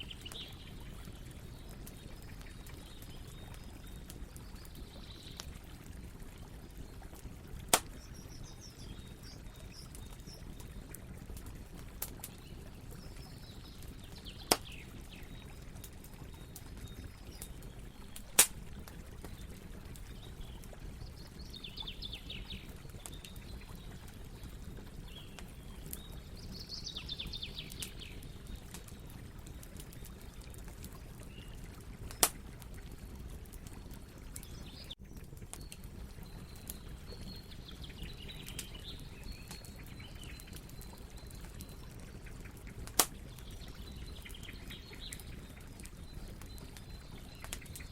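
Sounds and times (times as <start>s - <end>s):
campfire burning: 0.0s - 47.9s
wood popping in fire: 0.1s - 47.9s.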